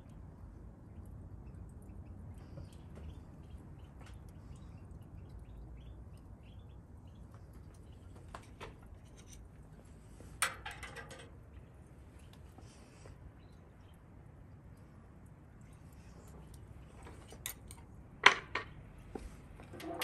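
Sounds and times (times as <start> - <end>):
steady outdoor background: 0.0 - 20.0.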